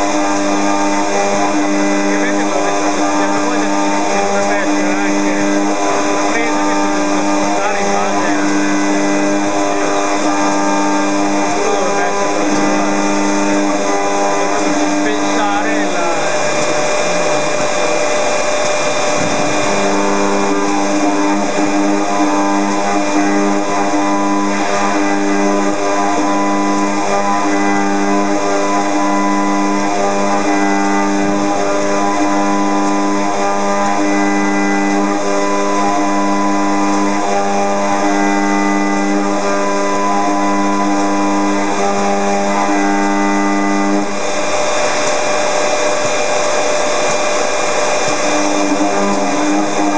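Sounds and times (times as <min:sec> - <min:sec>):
droning metal cutting tone: 0:00.0 - 0:49.9
spindle whine: 0:00.0 - 0:49.9.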